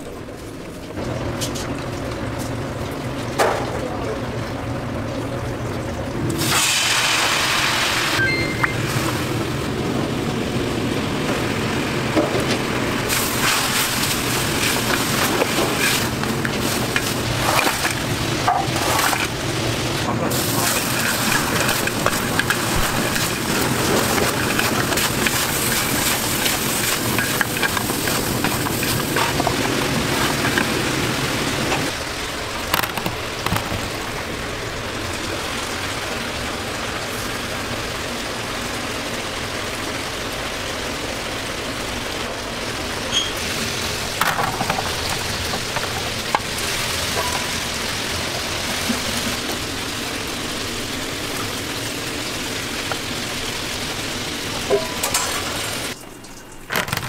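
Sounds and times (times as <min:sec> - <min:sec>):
chicken sizzling in a wok: 0:06.0 - 0:32.6, 0:33.2 - 0:56.7.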